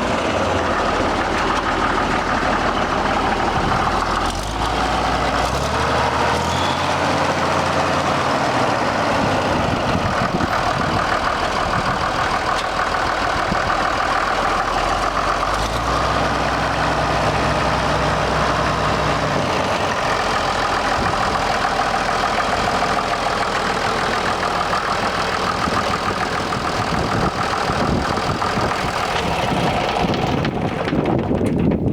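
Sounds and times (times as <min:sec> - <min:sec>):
tractor engine idling: 0:00.0 - 0:31.9.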